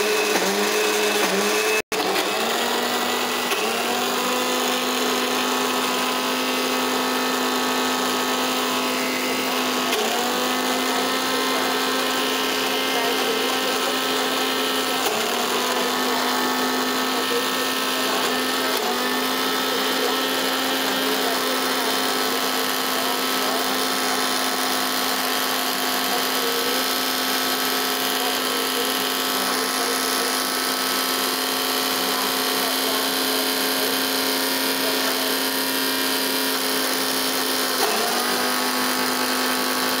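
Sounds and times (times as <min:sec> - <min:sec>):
mixer grinder motor humming: 0:00.0 - 0:40.0.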